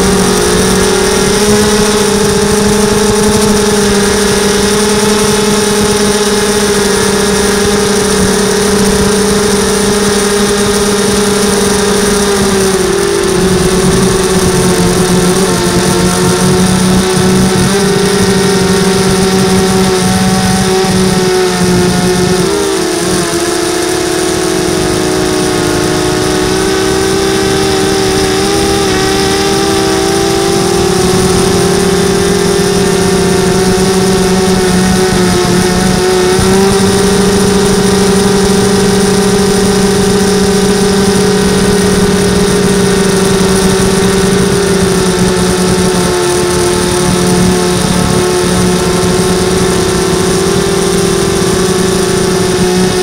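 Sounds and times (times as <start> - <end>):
model aircraft motor and propeller: 0.0 - 53.0.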